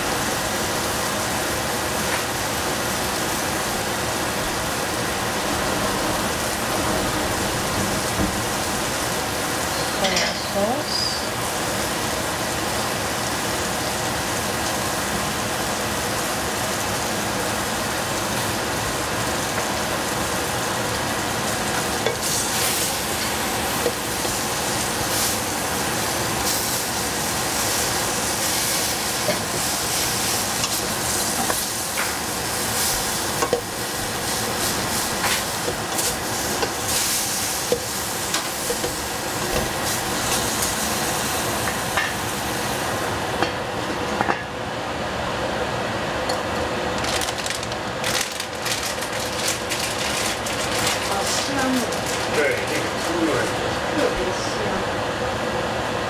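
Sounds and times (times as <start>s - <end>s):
food sizzling in a pot: 0.0s - 44.4s, 48.5s - 54.6s.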